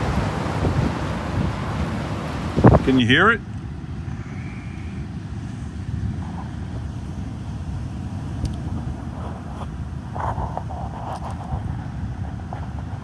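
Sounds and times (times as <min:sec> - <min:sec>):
heavy surf rushing: 0:00.0 - 0:13.0
storm wind buffeting microphone: 0:00.0 - 0:13.0.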